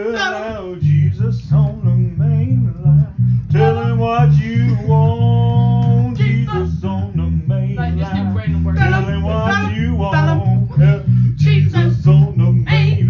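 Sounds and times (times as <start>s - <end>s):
bass guitar plucked: 0.0s - 13.0s
person singing: 0.0s - 13.0s.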